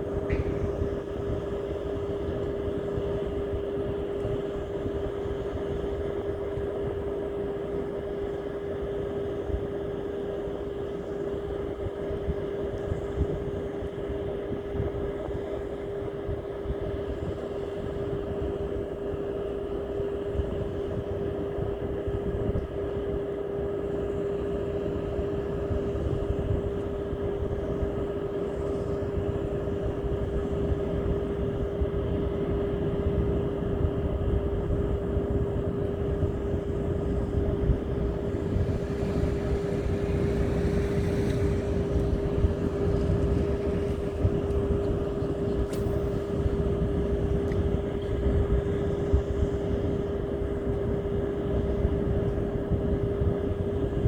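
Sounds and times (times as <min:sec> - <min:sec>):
motor drone: 0:00.0 - 0:54.0.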